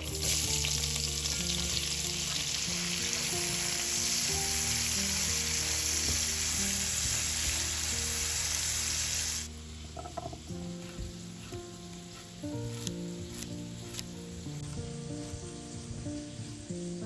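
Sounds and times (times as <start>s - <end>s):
food sizzling in hot oil: 0.0s - 14.6s
soft background music: 0.0s - 17.0s.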